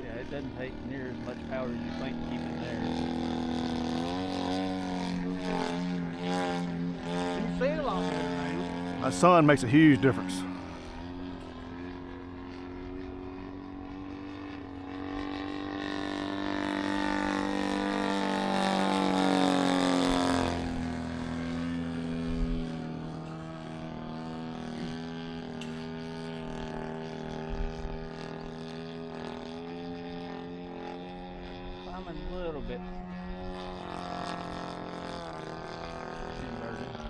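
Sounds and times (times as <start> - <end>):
model plane engine droning: 0.0 - 37.0.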